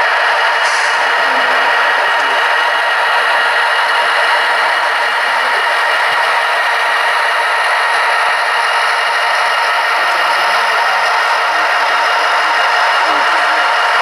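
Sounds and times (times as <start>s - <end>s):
model train running with light rattle: 0.0s - 14.0s.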